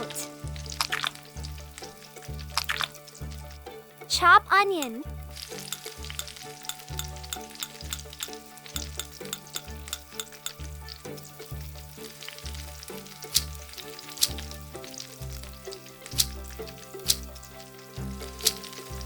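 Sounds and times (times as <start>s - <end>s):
food sizzling in a frying pan: 0.0s - 4.0s, 5.0s - 19.0s
background music with low beat: 0.0s - 19.0s.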